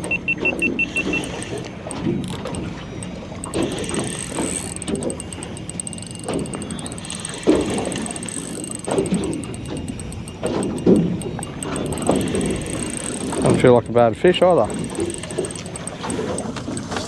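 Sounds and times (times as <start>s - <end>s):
fishing reel ratcheting: 0.6s - 17.0s.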